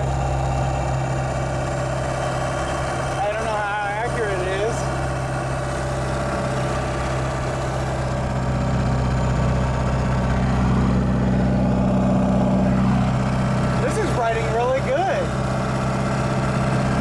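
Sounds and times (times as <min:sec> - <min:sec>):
diesel pickup engine running: 0:00.0 - 0:17.0.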